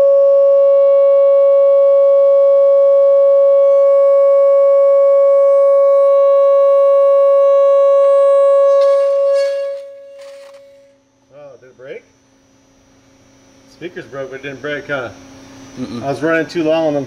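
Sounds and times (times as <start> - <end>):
loud steady sine tone: 0.0 - 17.0.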